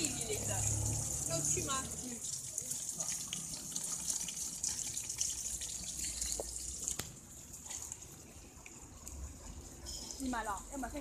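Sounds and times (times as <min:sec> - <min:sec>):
running water spraying: 0:00.0 - 0:11.0
water dripping: 0:00.0 - 0:11.0.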